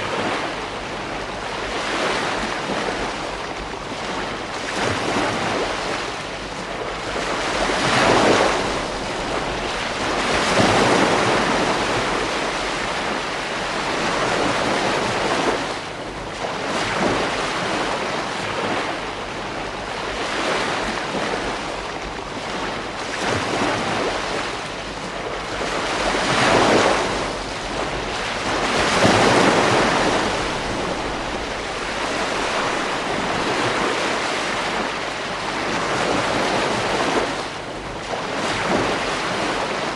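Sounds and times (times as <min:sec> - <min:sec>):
ocean waves breaking on beach: 0:00.0 - 0:39.9
steady wind noise: 0:00.0 - 0:39.9.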